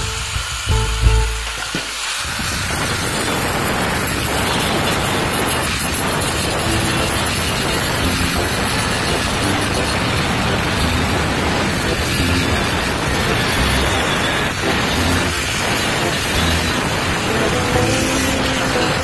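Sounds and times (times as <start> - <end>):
angle grinder grinding metal: 0.0 - 19.0.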